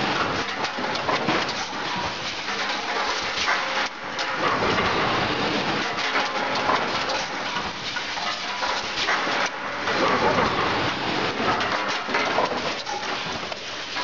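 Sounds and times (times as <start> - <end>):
continuous hiss: 0.0 - 14.0
machine clattering: 0.0 - 14.0.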